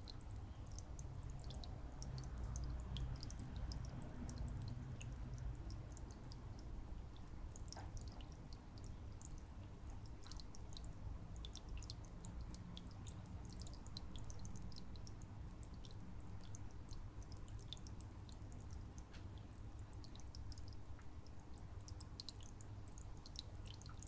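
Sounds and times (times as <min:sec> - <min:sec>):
low steady hum: 0:00.0 - 0:24.0
water dripping and trickling: 0:00.0 - 0:24.0.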